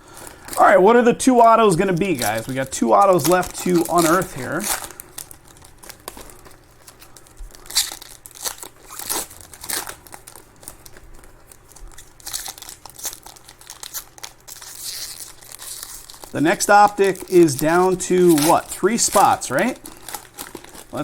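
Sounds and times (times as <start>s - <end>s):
card pack wrappers crinkling: 0.0s - 21.0s.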